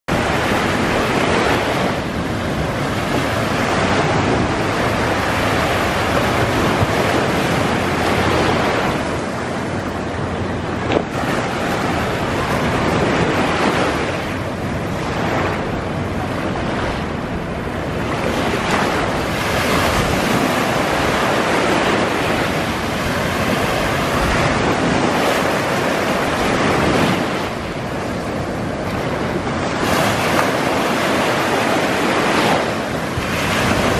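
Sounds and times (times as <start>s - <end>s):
surf washing onto beach: 0.1s - 33.9s
wind rumbling on microphone: 0.1s - 33.9s.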